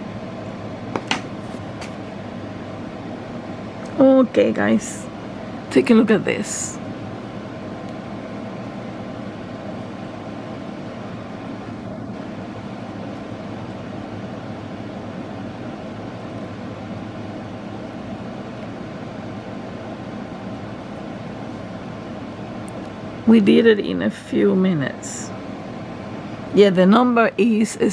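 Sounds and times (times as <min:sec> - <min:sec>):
steady low room hum: 0:00.0 - 0:27.9.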